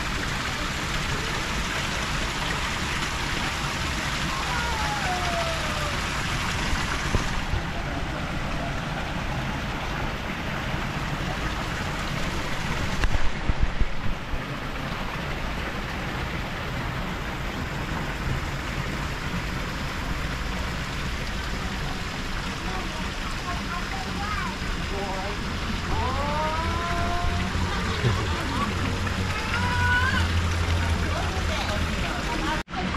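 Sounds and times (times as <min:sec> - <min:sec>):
fountain water splashing into pond: 0:00.0 - 0:32.9.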